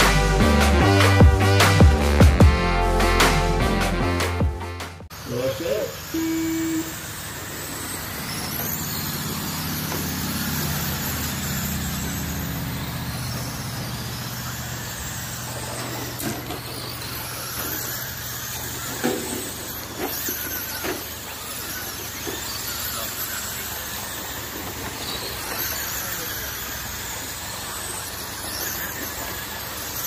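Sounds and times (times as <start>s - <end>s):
electric motors whining: 0.0s - 30.0s.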